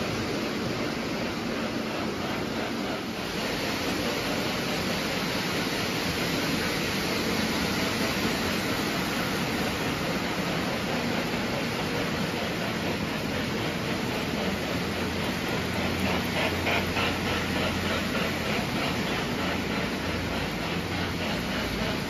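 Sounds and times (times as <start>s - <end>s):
model trains rumbling on track: 0.0s - 22.0s.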